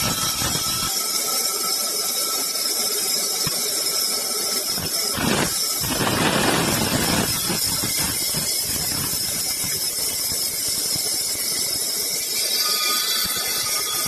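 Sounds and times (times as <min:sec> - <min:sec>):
saw whining: 0:00.0 - 0:14.0.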